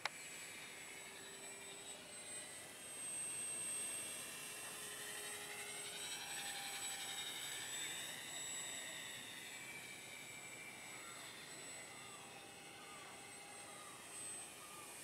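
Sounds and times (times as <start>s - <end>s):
electric motor high whine: 0.0s - 15.0s.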